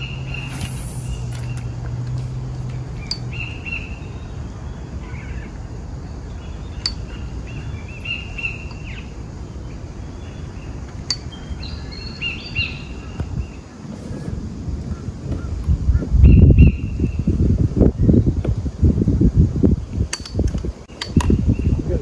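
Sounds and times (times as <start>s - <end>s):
low rumble: 0.0s - 19.9s
birds chirping: 0.0s - 22.0s.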